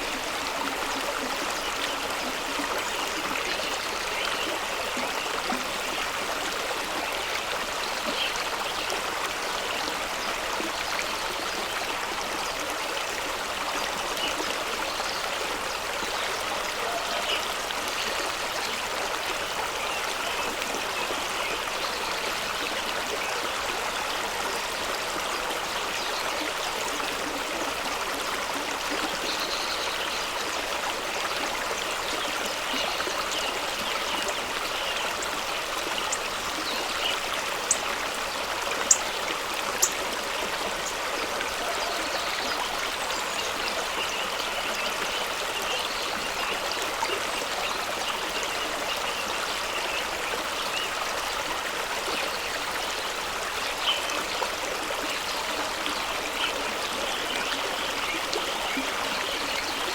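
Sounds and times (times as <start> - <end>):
stream rushing over rocks: 0.0 - 59.9
water trickling and gurgling: 0.0 - 59.9.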